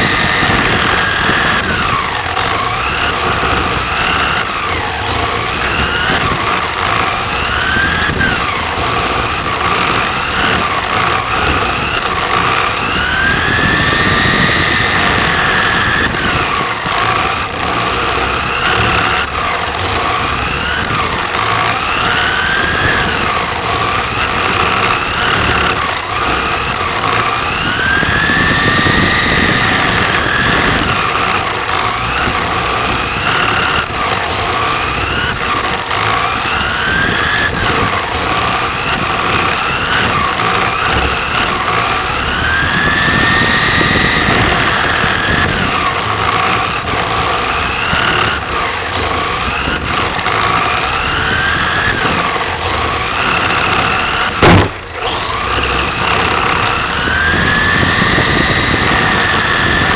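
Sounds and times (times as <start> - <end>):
drivetrain and tyre noise: 0.0 - 59.9
electric motor and gears whining: 0.0 - 59.9.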